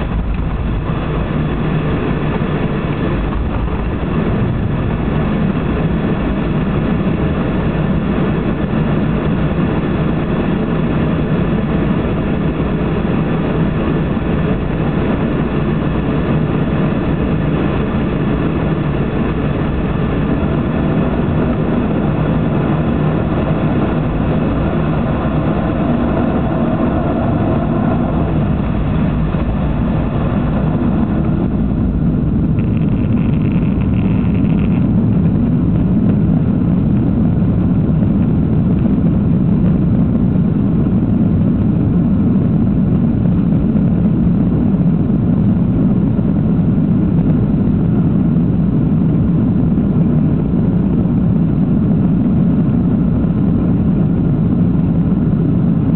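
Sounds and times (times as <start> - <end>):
jet engine drone in cabin: 0.0 - 55.9.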